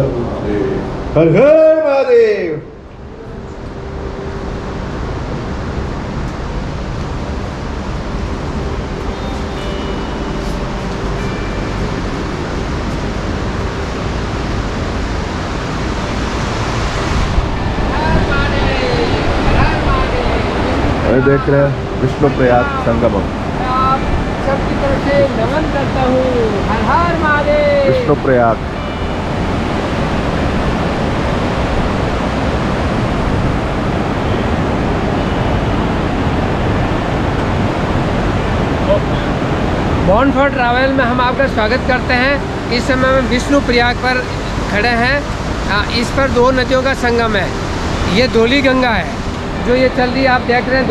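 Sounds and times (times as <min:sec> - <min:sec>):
river rushing over rocks: 0:03.7 - 0:50.9.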